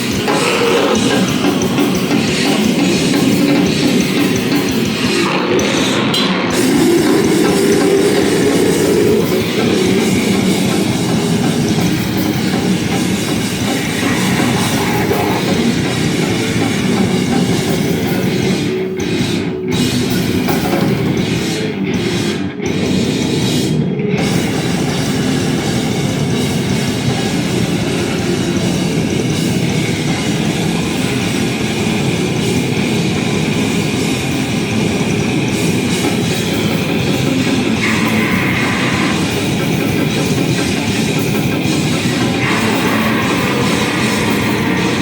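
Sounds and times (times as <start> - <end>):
loud distorted live music: 0.0 - 45.0.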